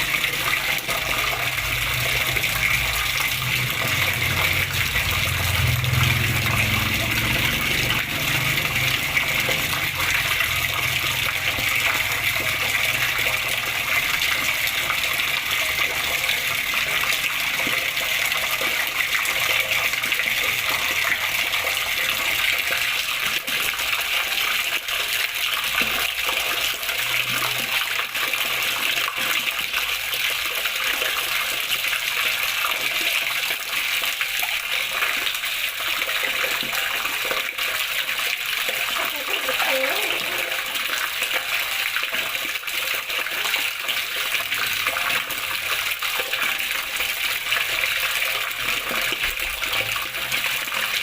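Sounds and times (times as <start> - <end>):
water splashing and rushing: 0.0 - 51.0.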